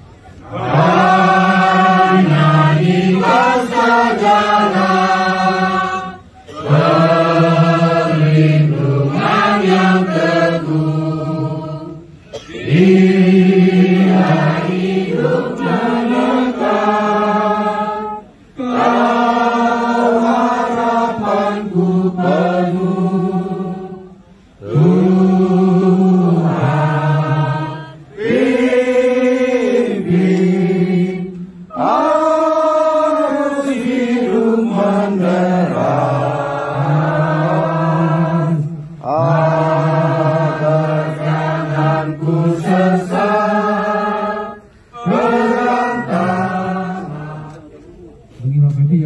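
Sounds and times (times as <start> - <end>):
group singing a hymn: 0.0 - 49.0.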